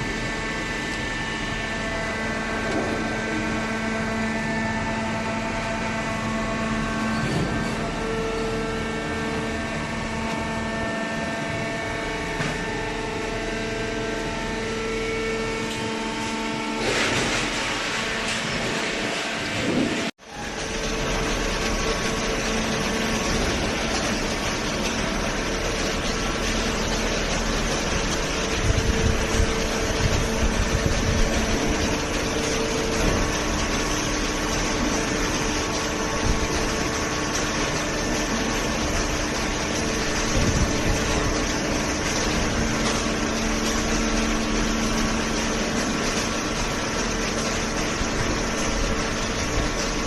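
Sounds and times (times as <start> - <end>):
baler motor and pump humming: 0.0 - 50.0.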